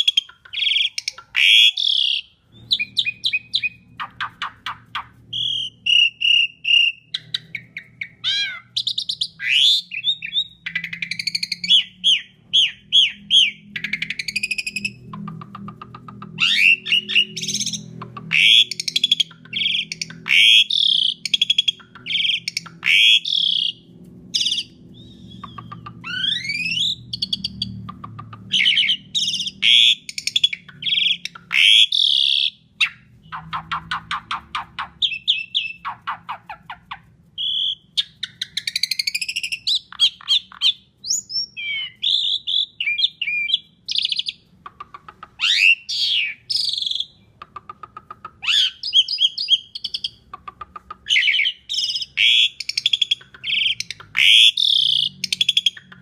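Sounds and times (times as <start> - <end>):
starling singing: 0.0 - 47.4, 48.2 - 56.0.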